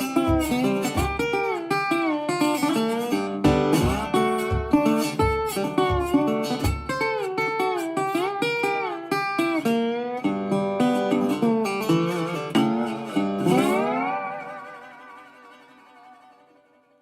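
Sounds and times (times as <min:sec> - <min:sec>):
plucked string instrument melody: 0:00.0 - 0:17.0.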